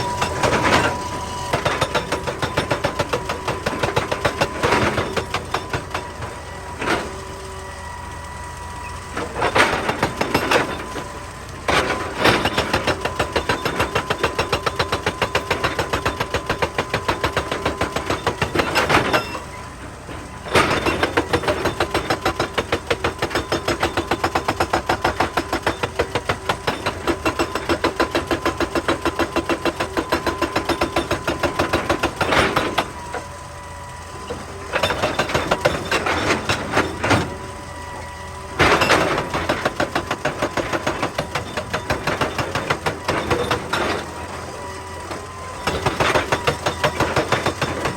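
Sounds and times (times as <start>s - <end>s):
diesel engine running: 0.0s - 47.9s
hydraulic rock breaker hammering: 0.0s - 47.9s.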